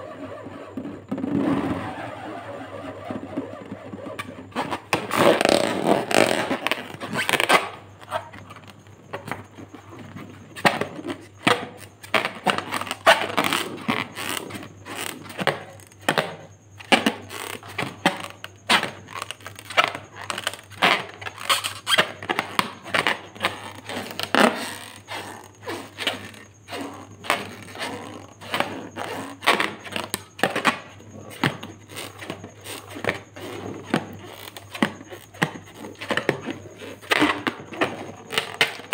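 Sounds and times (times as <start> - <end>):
balloon squeaking: 0.0 - 8.7, 11.8 - 15.9, 16.9 - 38.9.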